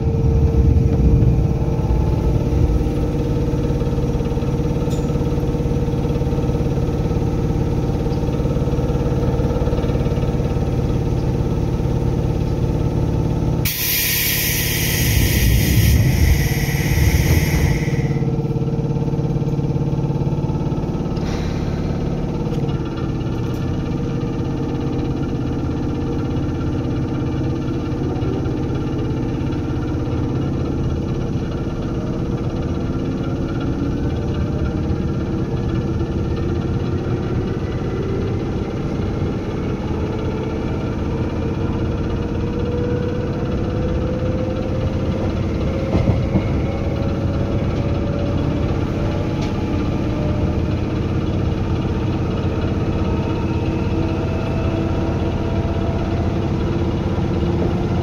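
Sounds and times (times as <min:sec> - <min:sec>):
electric train running: 0:00.0 - 0:58.0.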